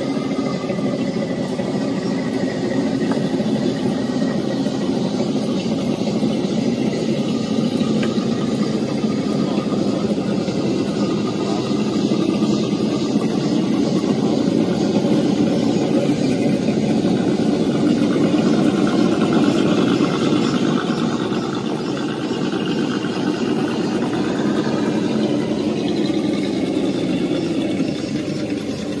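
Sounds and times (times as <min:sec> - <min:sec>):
rc truck motors whirring: 0:02.1 - 0:29.0.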